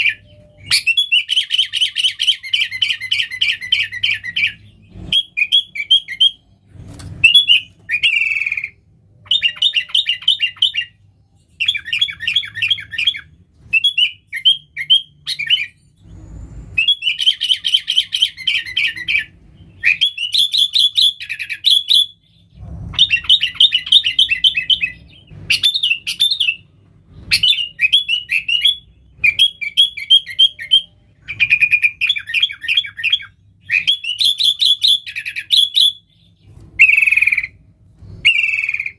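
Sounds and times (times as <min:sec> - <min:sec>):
bird chattering song: 0:00.0 - 0:06.5, 0:07.2 - 0:38.9.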